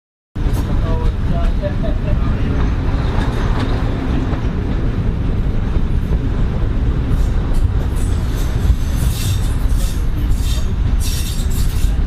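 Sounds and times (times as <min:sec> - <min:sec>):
train rumbling from inside carriage: 0:00.4 - 0:12.0.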